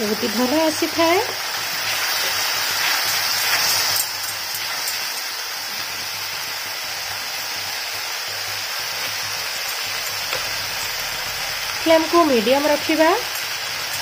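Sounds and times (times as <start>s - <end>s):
masala sizzling in oil: 0.0s - 14.0s.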